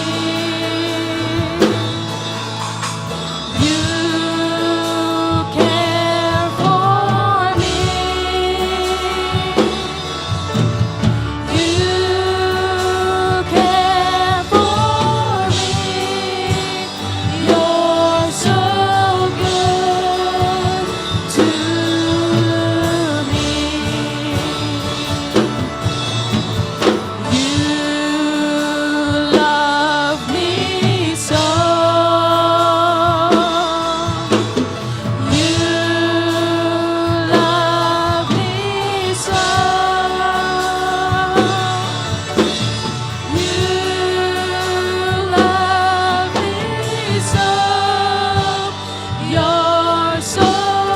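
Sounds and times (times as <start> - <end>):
instrumental accompaniment: 0.0 - 50.9
person singing worship song: 0.0 - 50.9.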